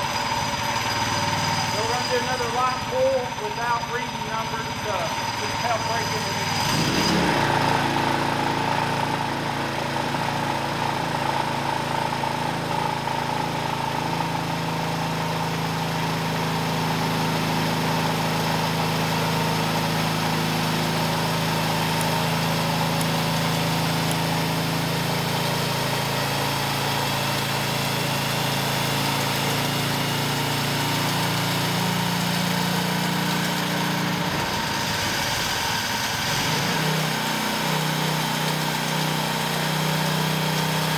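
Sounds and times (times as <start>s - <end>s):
single-cylinder engine running: 0.0s - 40.9s.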